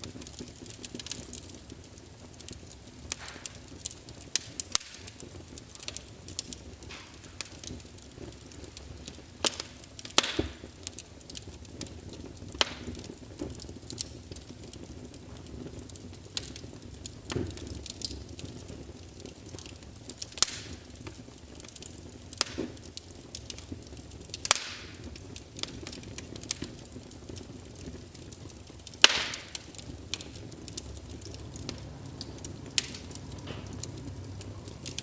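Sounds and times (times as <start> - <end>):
rush of flame: 0.0 - 35.0
wood fire crackling: 0.0 - 35.0.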